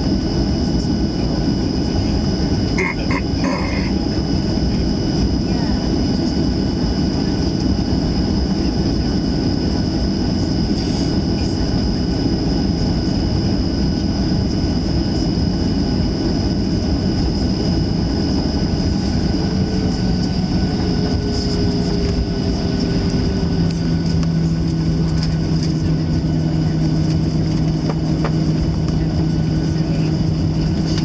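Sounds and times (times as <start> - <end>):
jet engine whine: 0.0 - 31.0
low cabin rumble: 0.0 - 31.0.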